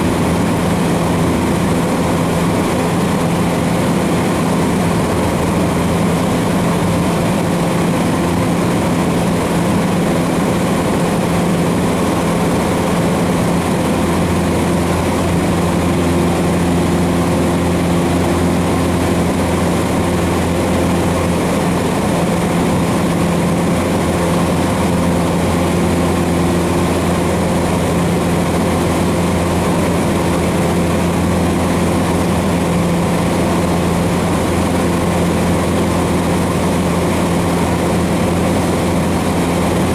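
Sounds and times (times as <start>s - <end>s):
airplane engine droning in cabin: 0.0s - 39.9s.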